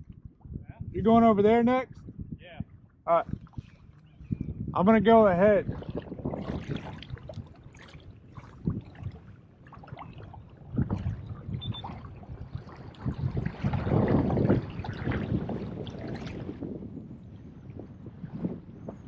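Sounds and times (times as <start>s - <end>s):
wind buffeting the microphone: 0.0s - 19.0s
water splashing against a hull: 1.9s - 19.0s.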